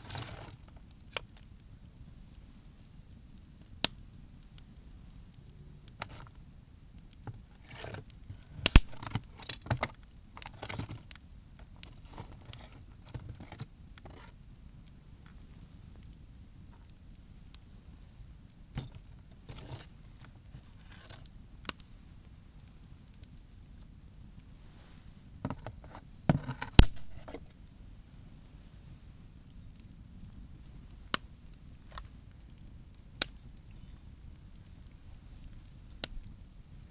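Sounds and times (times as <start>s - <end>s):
bonfire crackling and popping: 0.0s - 36.9s.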